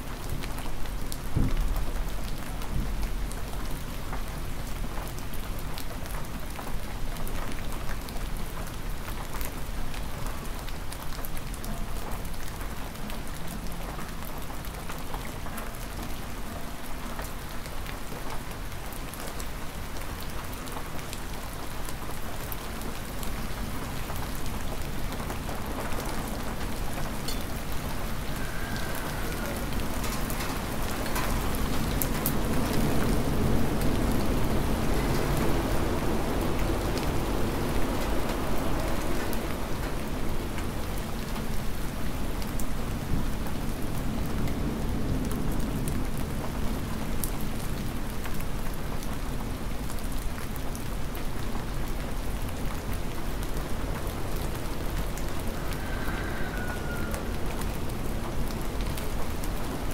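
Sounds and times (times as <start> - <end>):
raindrops tapping on surfaces: 0.0 - 55.9
hard rain: 0.0 - 59.9.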